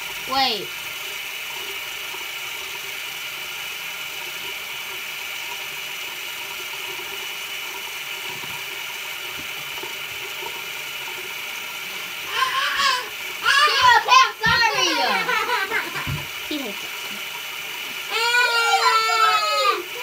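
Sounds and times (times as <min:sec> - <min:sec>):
electric toothbrush buzzing: 0:00.0 - 0:20.0.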